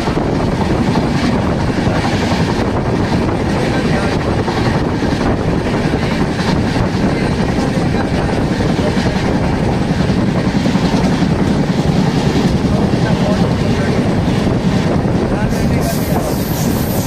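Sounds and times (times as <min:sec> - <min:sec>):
rushing wind: 0:00.0 - 0:17.0
train wheels rumbling on rails: 0:00.0 - 0:17.0.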